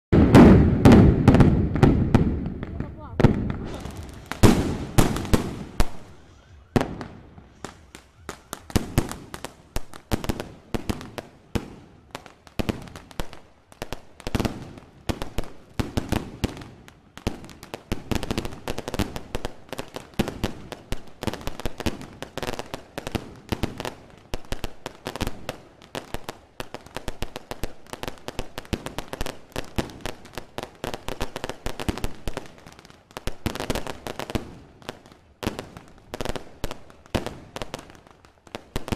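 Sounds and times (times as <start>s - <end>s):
fireworks bangs and crackles: 0.1s - 38.9s.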